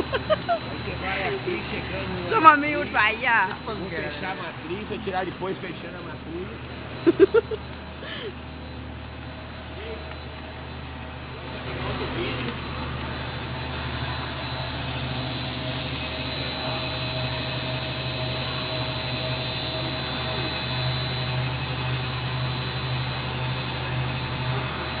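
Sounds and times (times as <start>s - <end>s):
food extruder mechanical drone: 0.0s - 25.0s.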